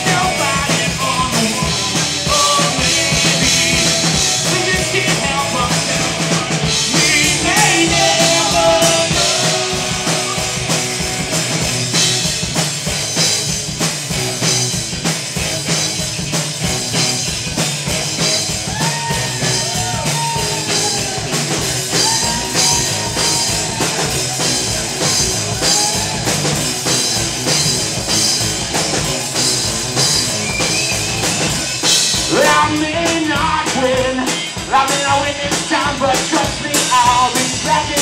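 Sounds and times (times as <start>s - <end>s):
drum kit: 0.0s - 38.0s
electric guitar: 0.0s - 38.0s
live rock band playing: 0.0s - 38.0s.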